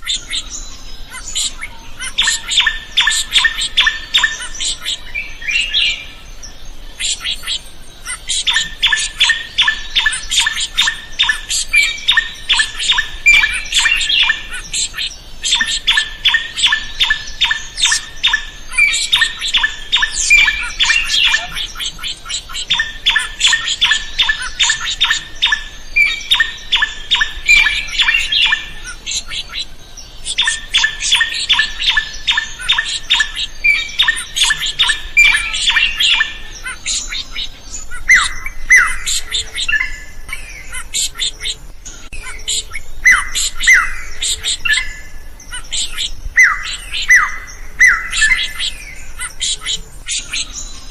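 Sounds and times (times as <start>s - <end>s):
bird harsh repeated calls: 0.0s - 50.9s.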